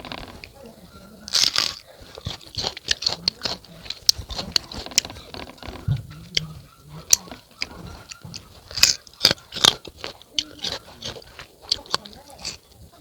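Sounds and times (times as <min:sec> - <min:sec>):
chewing crisp fruit: 0:00.0 - 0:13.0
mouth clicks: 0:00.0 - 0:13.0.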